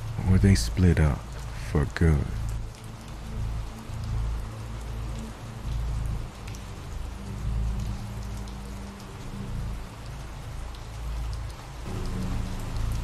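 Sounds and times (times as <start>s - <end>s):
low steady drone: 0.0s - 13.0s
steady rain falling: 0.0s - 13.0s.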